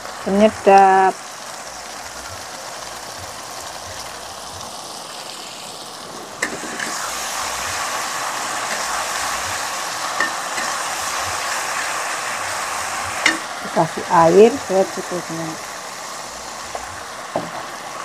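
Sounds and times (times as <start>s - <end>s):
paste sizzling in hot oil: 0.0s - 18.0s.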